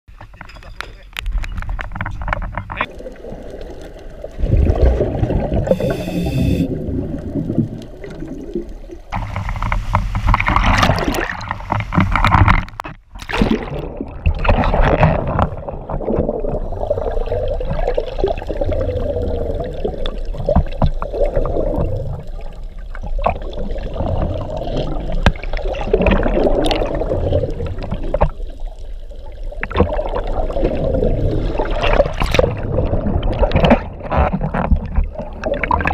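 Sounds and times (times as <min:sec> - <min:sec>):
underwater water churning and bubbling: 0:00.1 - 0:35.9.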